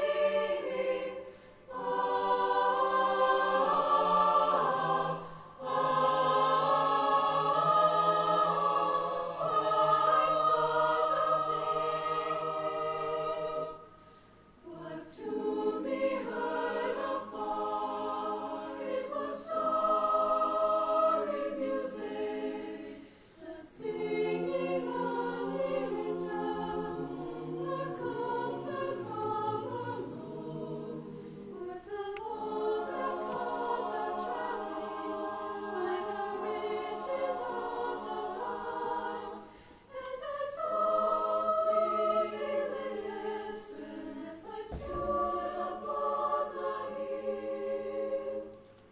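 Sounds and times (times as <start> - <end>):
mixed choir singing: 0.0 - 48.9.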